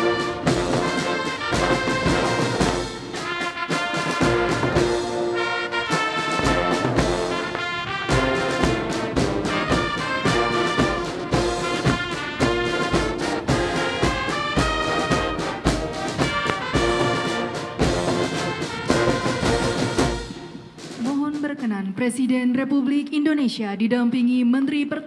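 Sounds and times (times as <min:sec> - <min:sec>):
brass band music: 0:00.0 - 0:21.4
steady drum beat: 0:00.0 - 0:21.7.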